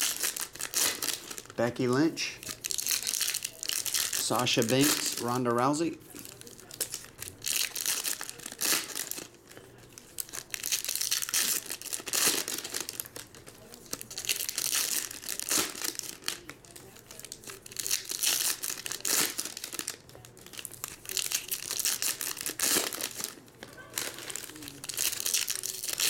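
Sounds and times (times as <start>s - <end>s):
foil wrappers tearing and crinkling: 0.0s - 26.0s.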